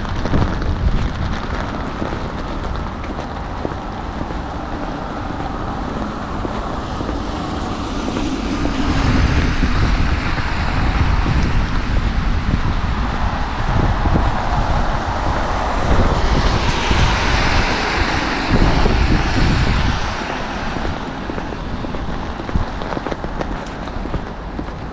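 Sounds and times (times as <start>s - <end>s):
wind rumbling on microphone: 0.0s - 24.9s.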